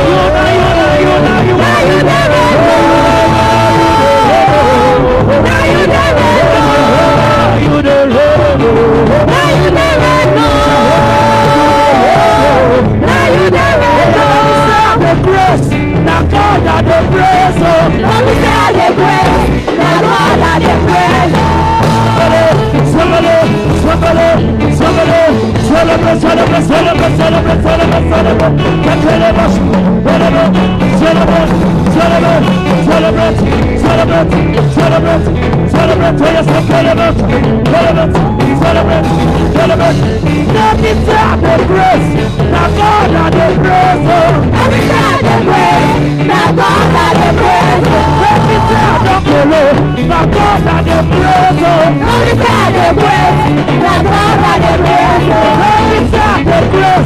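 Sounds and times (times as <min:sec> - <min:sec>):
drums: 0:00.0 - 0:57.0
live gospel band music: 0:00.0 - 0:57.0
repeating melodic riff: 0:00.0 - 0:57.0.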